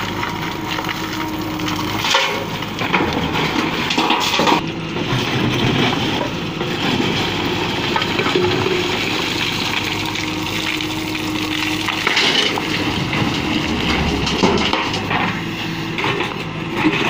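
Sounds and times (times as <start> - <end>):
diesel engine running under load: 0.0 - 17.0
rocks scraping and clattering: 0.0 - 17.0.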